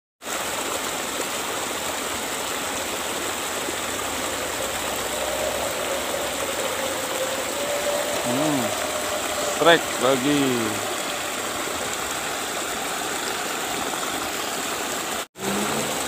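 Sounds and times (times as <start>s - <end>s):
stream rushing over rocks: 0.2s - 16.0s.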